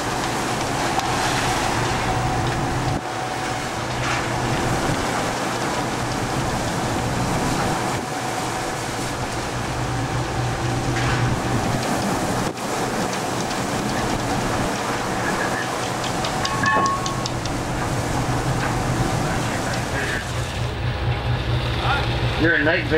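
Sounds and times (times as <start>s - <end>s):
boat engine humming: 0.0s - 22.9s
rough sea: 0.0s - 22.9s.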